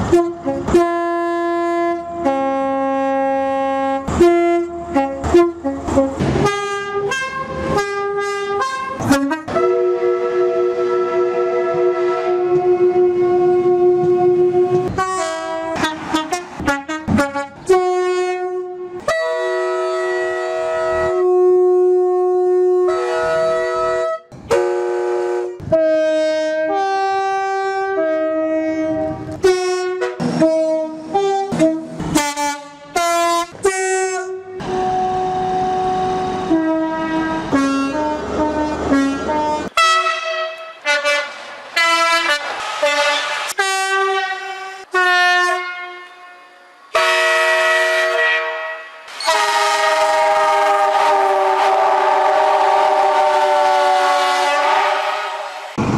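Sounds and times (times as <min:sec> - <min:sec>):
two-tone train horns: 0:00.0 - 0:55.8.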